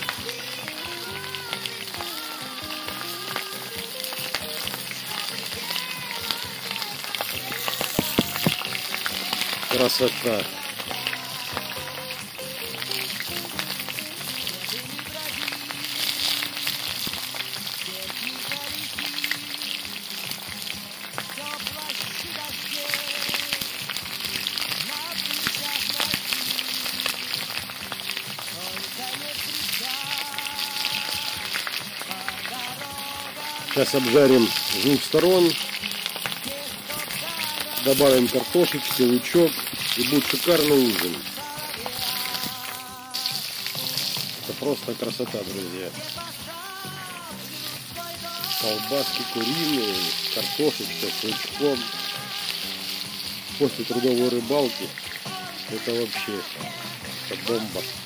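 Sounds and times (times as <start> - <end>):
background music with melody: 0.0 - 58.0
sausages sizzling and popping: 0.0 - 58.0.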